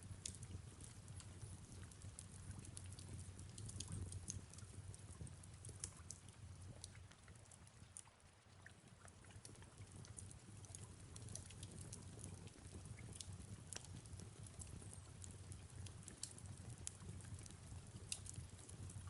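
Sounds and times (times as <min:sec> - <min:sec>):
fireplace crackling and popping: 0:00.0 - 0:19.0
soft rain falling: 0:00.0 - 0:19.0.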